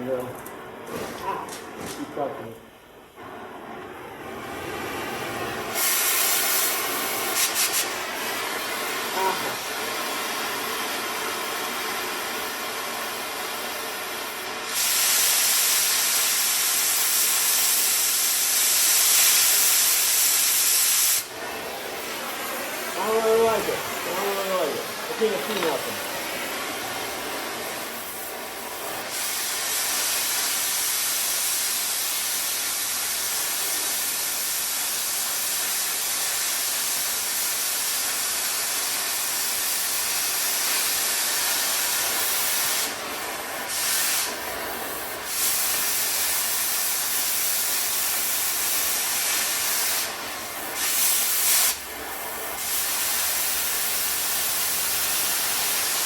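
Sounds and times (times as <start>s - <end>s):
cutting torch hissing: 0.0s - 56.0s.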